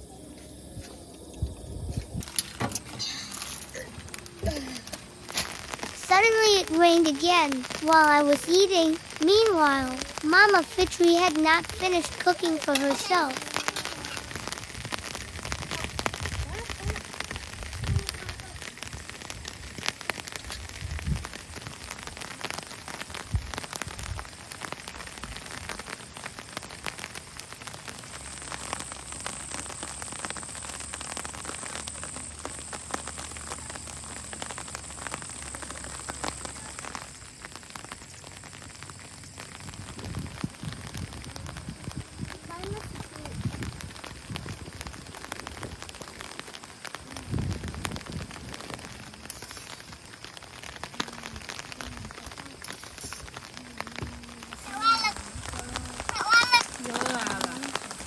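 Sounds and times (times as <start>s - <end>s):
steady rain hiss: 0.0s - 58.0s
raindrop hits: 0.6s - 58.0s.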